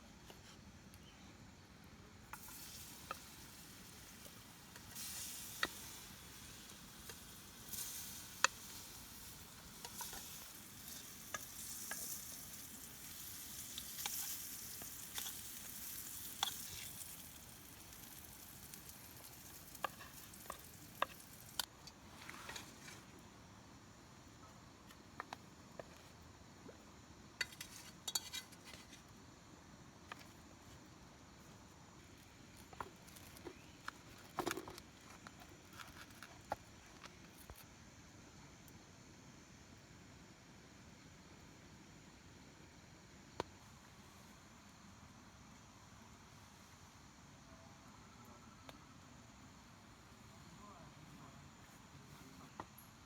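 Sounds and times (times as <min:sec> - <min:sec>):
soft sizzling hiss: 0:00.0 - 0:53.0.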